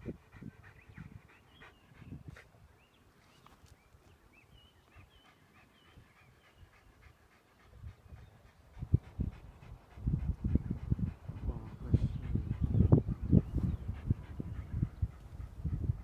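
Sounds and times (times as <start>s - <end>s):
wind buffeting microphone: 0.0s - 3.0s, 4.3s - 16.0s
faint songbird song: 0.0s - 16.0s.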